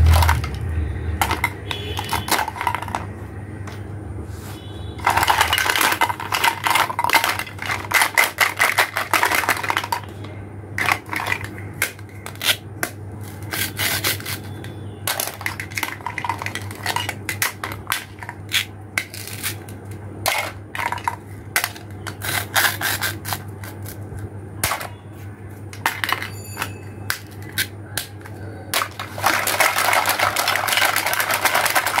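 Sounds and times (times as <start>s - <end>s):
plastic toy pieces clattering: 0.0s - 0.6s, 1.2s - 3.1s, 5.0s - 14.4s, 15.0s - 24.0s, 24.6s - 25.0s, 25.7s - 32.0s.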